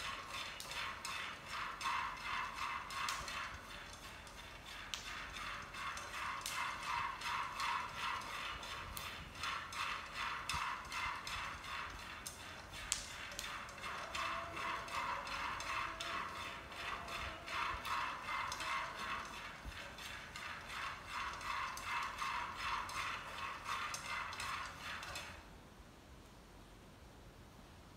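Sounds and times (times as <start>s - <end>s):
peanuts rattling in pan: 0.0s - 25.4s
utensil scraping frying pan: 0.0s - 25.4s.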